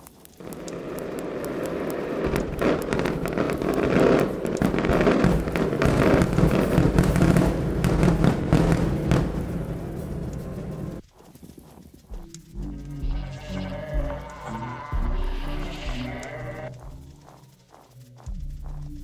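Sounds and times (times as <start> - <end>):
crackling electronic noise: 0.0 - 19.0
deep low rumble: 0.7 - 11.0, 12.1 - 19.0.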